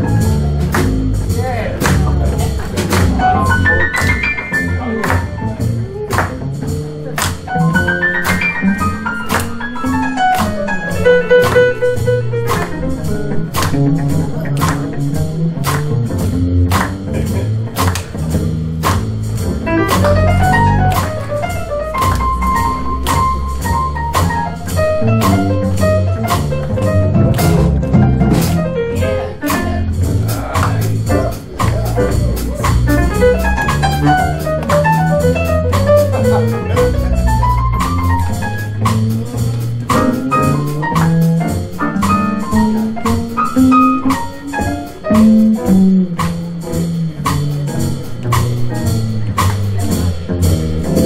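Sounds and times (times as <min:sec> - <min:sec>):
drum kit with ride cymbal: 0:00.0 - 0:51.0
piano: 0:00.0 - 0:51.0
plucked double bass walking: 0:00.0 - 0:51.0.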